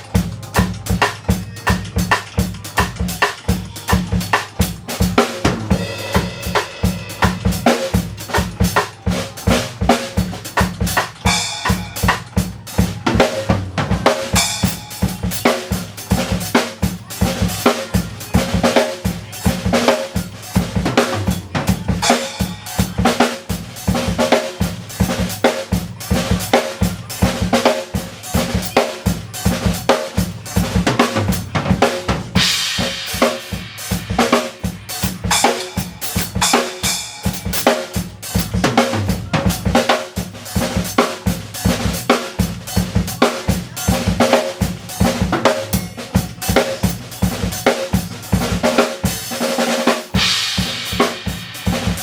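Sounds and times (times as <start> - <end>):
drum kit playing a groove: 0.0 - 52.0
music backing track: 0.0 - 52.0.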